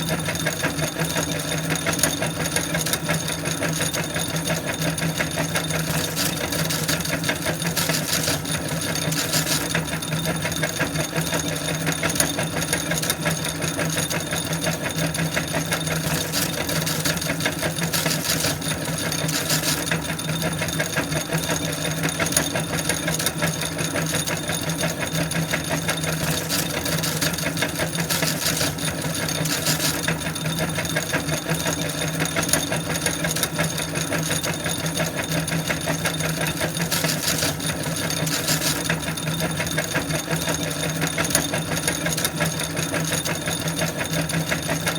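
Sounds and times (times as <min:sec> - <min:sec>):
electric meat grinder humming: 0:00.0 - 0:44.9.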